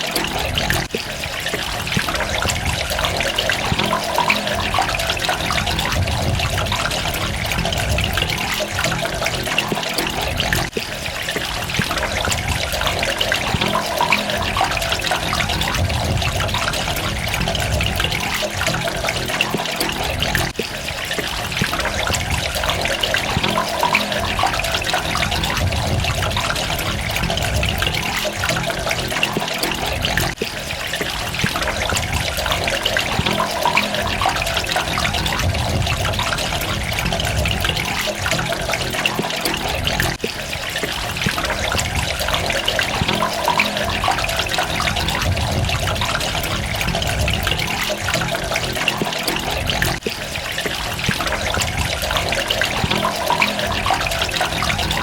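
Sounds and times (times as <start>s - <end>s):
trickling water with splashes: 0.0s - 55.0s.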